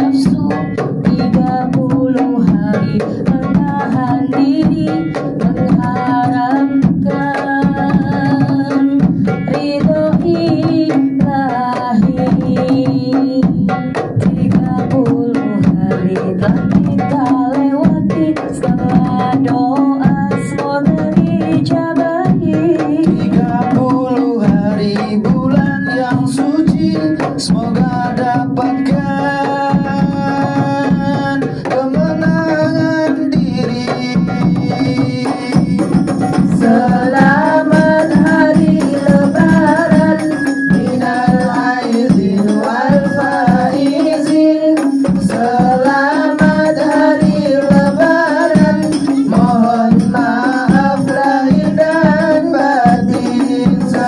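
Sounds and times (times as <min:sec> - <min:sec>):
frame drum beating: 0:00.0 - 0:54.0
group of voices singing: 0:00.0 - 0:54.0.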